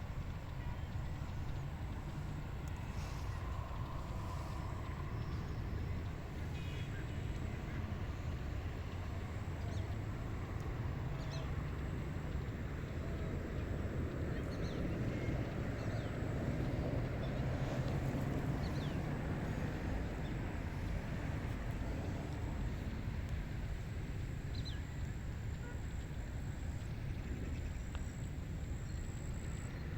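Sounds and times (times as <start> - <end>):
wind rumbling and hissing: 0.0 - 29.9.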